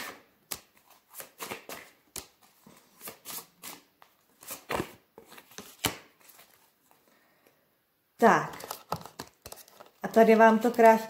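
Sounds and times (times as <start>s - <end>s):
cards being shuffled: 0.0s - 6.7s, 8.5s - 11.0s.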